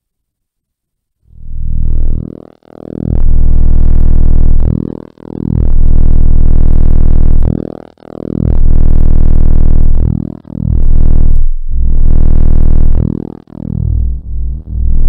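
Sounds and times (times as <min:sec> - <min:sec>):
deep electronic drone: 0:01.3 - 0:15.0.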